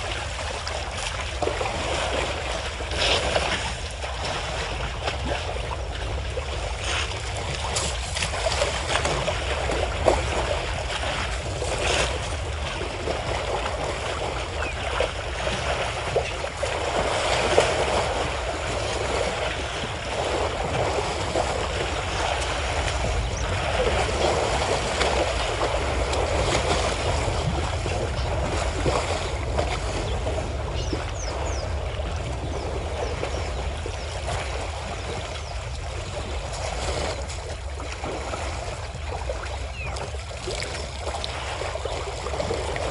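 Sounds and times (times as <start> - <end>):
water splashing and sloshing: 0.0 - 42.9.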